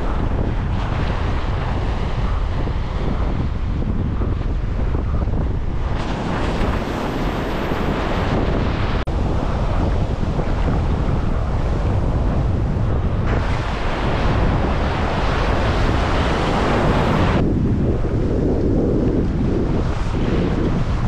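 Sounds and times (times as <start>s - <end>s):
surf breaking on reef: 0.0s - 21.0s
wind buffeting microphone: 0.0s - 21.0s.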